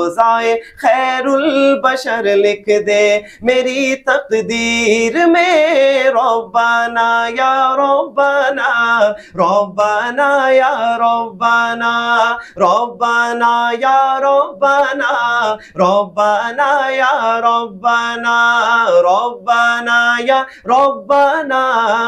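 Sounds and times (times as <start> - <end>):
man singing melismatic phrases: 0.0 - 22.0.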